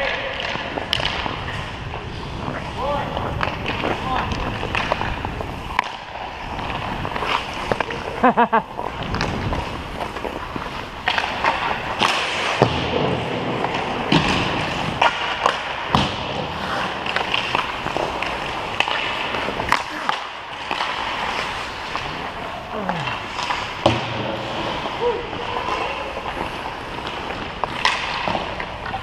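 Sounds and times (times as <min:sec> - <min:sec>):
hockey stick hitting puck: 0:00.0 - 0:01.6, 0:03.1 - 0:08.1, 0:08.8 - 0:29.0
ice skates scraping on ice: 0:00.0 - 0:29.0.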